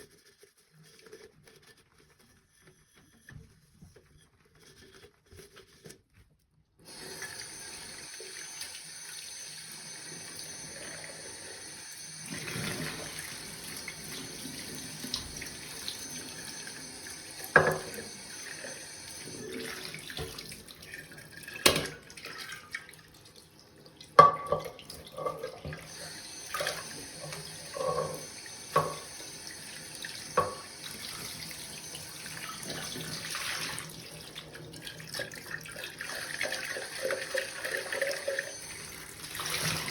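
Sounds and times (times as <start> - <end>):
tap water running into a sink: 6.8 - 39.9.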